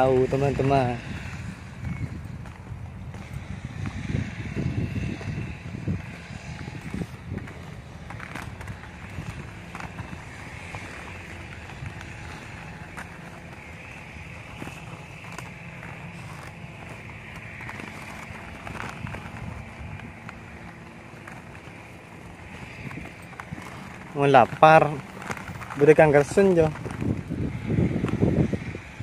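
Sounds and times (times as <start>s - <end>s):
inline skate wheels rolling on concrete: 0.0s - 29.0s.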